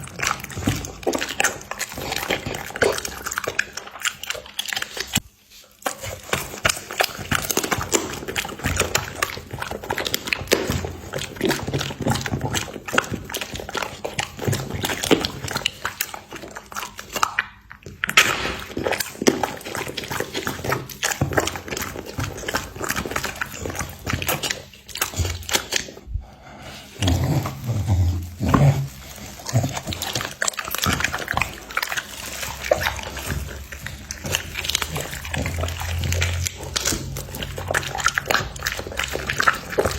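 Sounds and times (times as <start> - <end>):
dog chewing meat: 0.0 - 39.9
dog slurping: 0.0 - 39.9.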